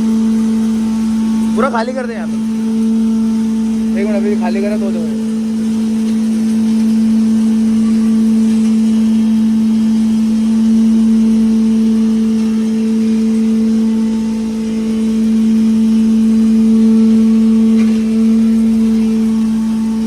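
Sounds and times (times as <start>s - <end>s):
wood chipper running: 0.0s - 20.0s.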